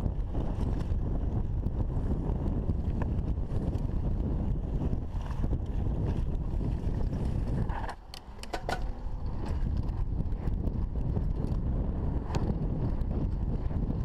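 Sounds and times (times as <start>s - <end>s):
bike clicks and rattles: 0.0s - 14.0s
wind rushing over microphone: 0.0s - 14.0s.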